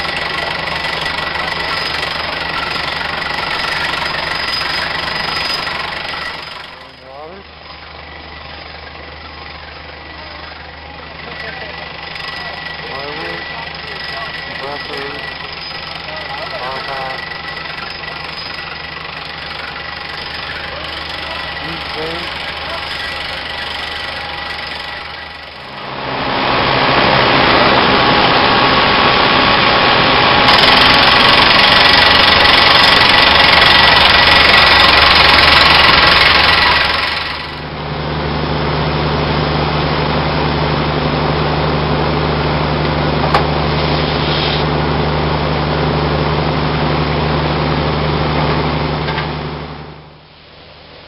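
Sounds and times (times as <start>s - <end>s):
drill rig engine running: 0.0s - 50.2s.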